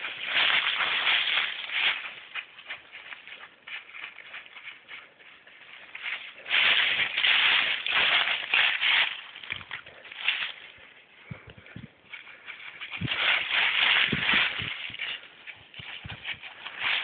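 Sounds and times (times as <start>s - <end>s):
rustling and scuffing: 0.0s - 17.0s.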